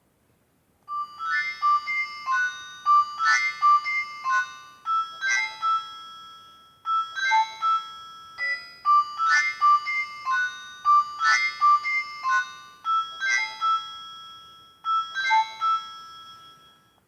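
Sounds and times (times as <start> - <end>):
electronic ringtone melody: 0.9 - 17.0.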